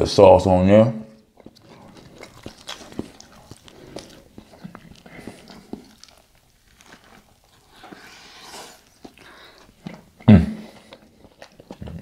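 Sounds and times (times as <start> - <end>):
biting and chewing: 1.1 - 12.0.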